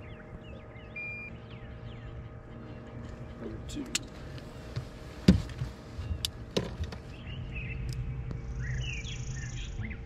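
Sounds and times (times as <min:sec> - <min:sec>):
low steady rumble: 0:00.0 - 0:10.0
small birds chirping: 0:00.0 - 0:10.0.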